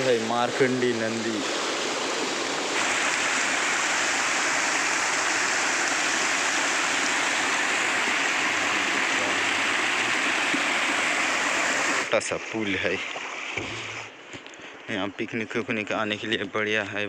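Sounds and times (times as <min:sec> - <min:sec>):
river and small waterfall rushing: 0:00.0 - 0:14.3.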